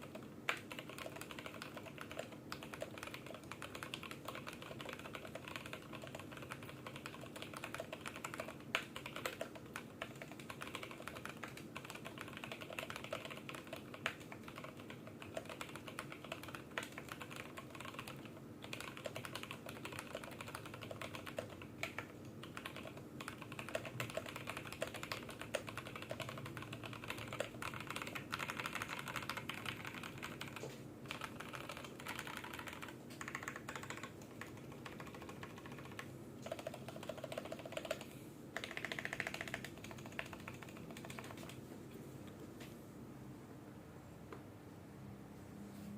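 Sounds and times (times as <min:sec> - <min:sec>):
mechanical keyboard typing: 0:00.0 - 0:41.6
faint steady hum: 0:00.0 - 0:45.9.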